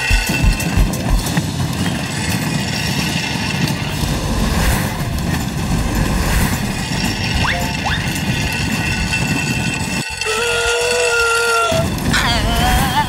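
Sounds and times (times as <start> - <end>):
wheels rattling on metal track: 0.0 - 13.0.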